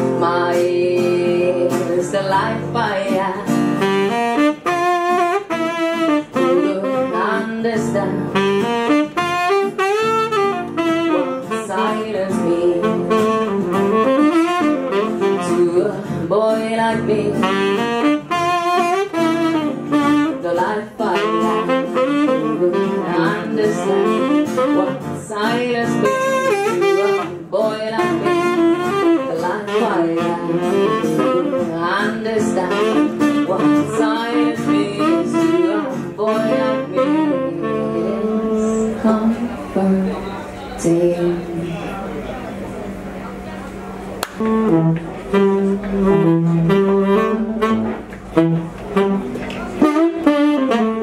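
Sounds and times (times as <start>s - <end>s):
saxophone melody: 0.0s - 41.9s, 42.9s - 51.0s
sustained guitar accompaniment: 0.0s - 51.0s.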